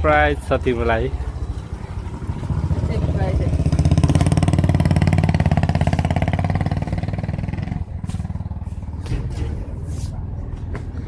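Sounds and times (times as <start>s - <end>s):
motor scooter engine idling: 0.0s - 11.0s.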